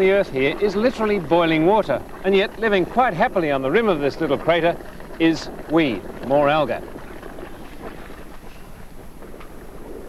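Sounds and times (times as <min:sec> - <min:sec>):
boiling water and steam hissing: 0:00.0 - 0:10.0.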